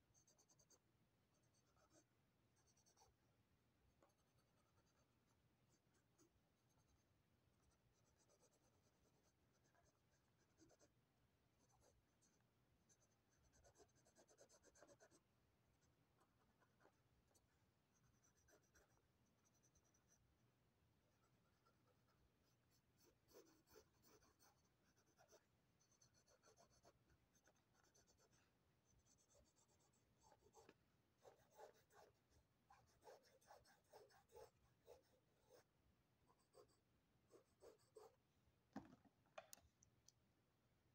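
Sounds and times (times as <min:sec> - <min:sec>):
pencil scratching on paper: 0:00.1 - 0:03.2, 0:04.0 - 0:20.4, 0:21.0 - 0:38.2.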